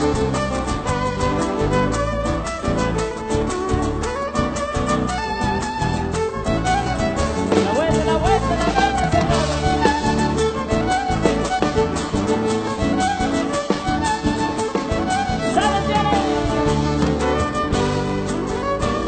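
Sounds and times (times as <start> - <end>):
band bass and beat: 0.0 - 19.0
violin with sliding notes: 0.0 - 19.0.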